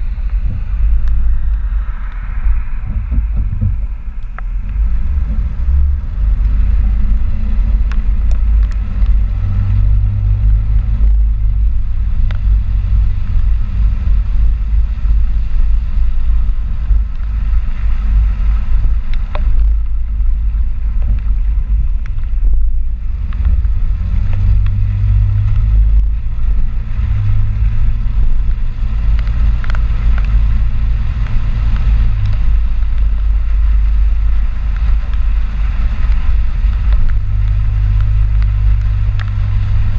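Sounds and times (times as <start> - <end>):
deep drone: 0.0 - 39.9
truck engine and road noise: 0.0 - 39.9.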